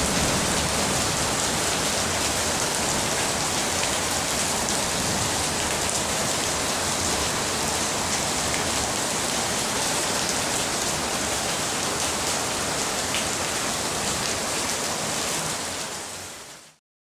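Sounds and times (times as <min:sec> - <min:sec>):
rain falling on paving: 0:00.0 - 0:16.8.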